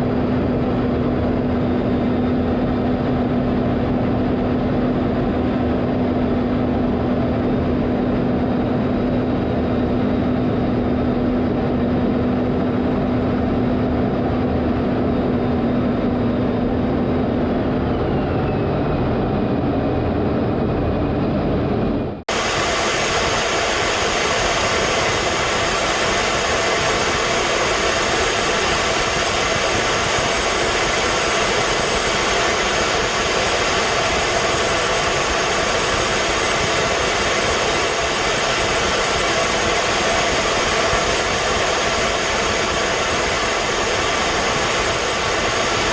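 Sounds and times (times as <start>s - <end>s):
jet engine whine: 0.0s - 45.9s.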